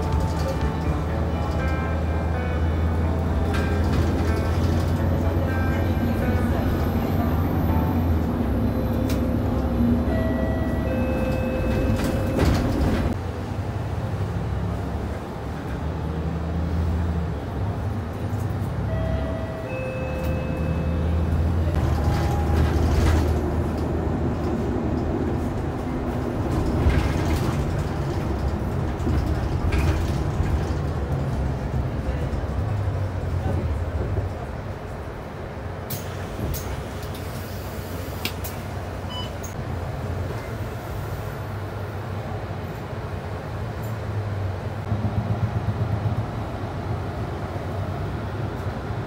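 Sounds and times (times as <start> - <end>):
bus engine rumble: 0.0 - 49.0
road noise: 0.0 - 49.0.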